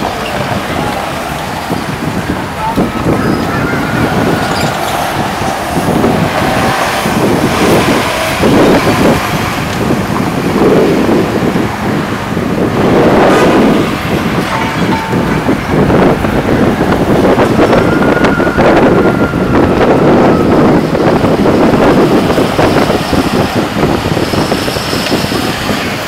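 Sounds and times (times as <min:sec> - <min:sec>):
excavator rumbling: 0:00.0 - 0:26.0.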